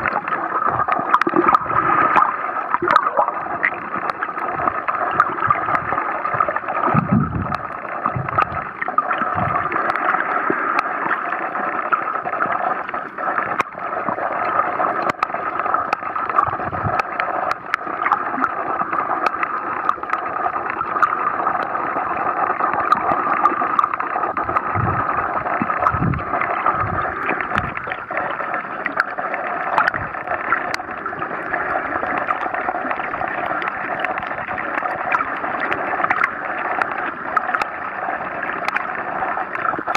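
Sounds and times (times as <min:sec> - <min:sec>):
sharp underwater clicks: 0:00.0 - 0:11.2, 0:11.9 - 0:21.8, 0:22.6 - 0:39.9
muffled underwater hiss: 0:00.0 - 0:39.9.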